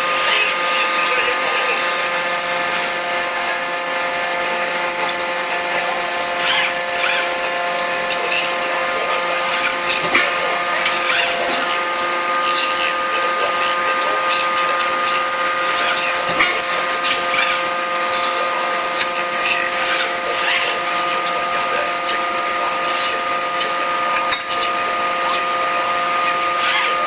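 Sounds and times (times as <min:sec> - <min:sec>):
machinery whining: 0:00.0 - 0:27.0.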